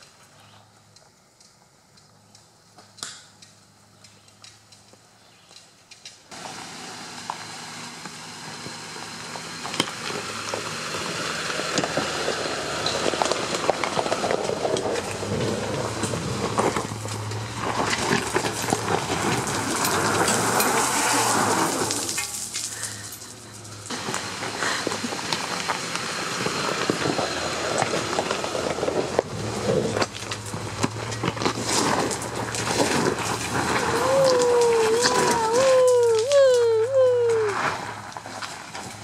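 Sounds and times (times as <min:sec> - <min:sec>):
tyres crunching on gravel: 0:00.0 - 0:39.0
low engine hum: 0:06.2 - 0:39.0.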